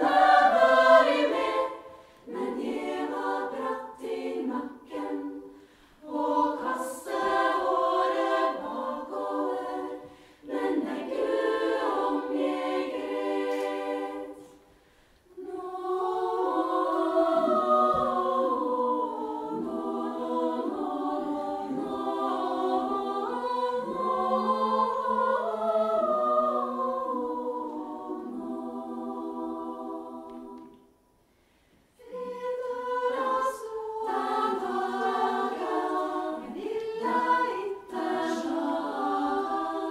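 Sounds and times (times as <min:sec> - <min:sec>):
female choir singing: 0:00.0 - 0:31.0, 0:32.0 - 0:39.9.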